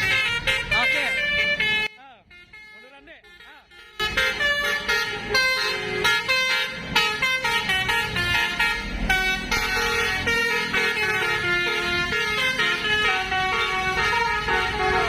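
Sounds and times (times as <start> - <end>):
bus musical air horn playing a tune: 0.0 - 15.0.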